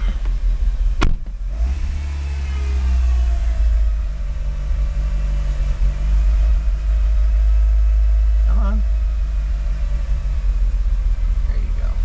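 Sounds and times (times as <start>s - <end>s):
car engine idling roughly: 0.0s - 12.0s.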